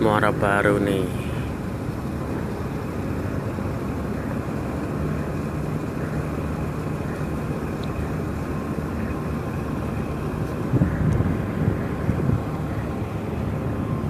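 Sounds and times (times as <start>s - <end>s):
constant rushing noise: 0.0s - 14.0s
engine humming: 0.0s - 14.0s.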